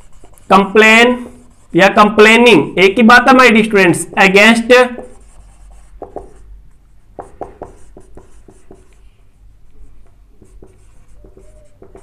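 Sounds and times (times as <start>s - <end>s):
marker pen writing on whiteboard: 0.0s - 2.4s, 3.6s - 6.5s, 7.1s - 12.0s.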